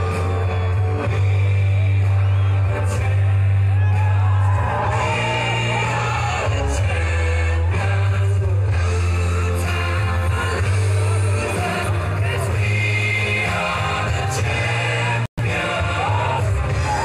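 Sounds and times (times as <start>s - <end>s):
song with singing and heavy bass: 0.0s - 17.0s.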